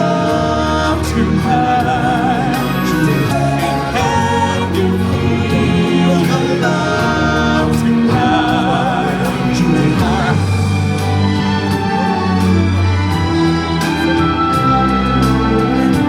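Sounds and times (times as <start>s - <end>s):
stage show band playing: 0.0s - 16.0s
voices singing long notes: 0.0s - 16.0s.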